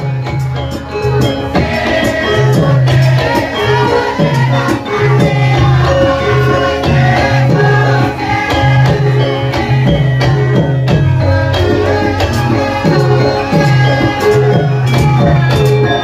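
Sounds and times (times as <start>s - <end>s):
drum strokes: 0.0s - 16.0s.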